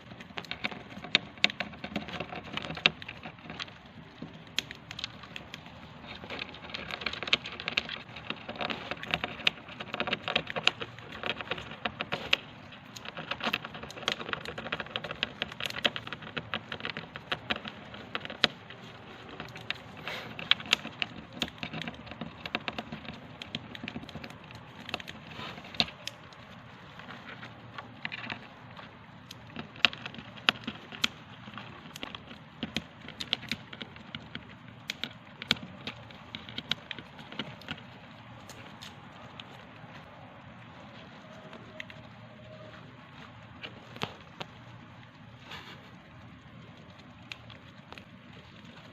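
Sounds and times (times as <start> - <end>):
hamster cracking seeds: 0.0 - 48.9.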